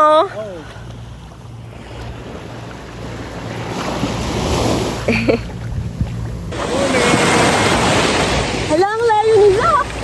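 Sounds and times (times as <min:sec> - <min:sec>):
water lapping in shallow surf: 0:00.0 - 0:10.0
wind on microphone: 0:01.9 - 0:10.0.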